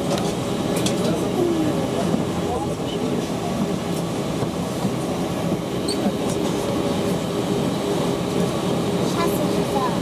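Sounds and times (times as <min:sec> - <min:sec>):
airliner rumbling over pavement: 0:00.0 - 0:10.0
jet engines humming: 0:00.0 - 0:10.0.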